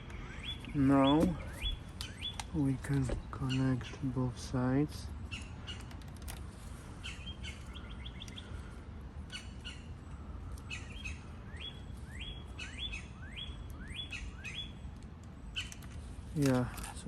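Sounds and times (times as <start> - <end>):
small bird chirping: 0.0 - 4.2, 6.7 - 17.0.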